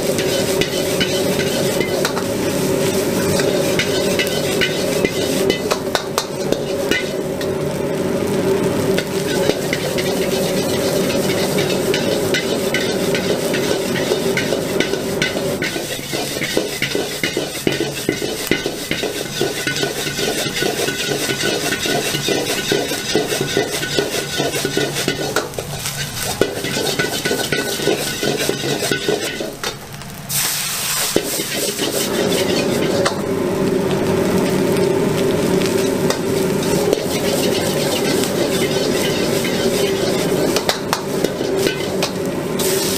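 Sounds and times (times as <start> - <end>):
ladle scraping a metal wok: 0.0 - 7.3, 9.0 - 29.7, 30.3 - 33.2, 35.6 - 42.9
rice sizzling in hot oil: 0.0 - 42.9.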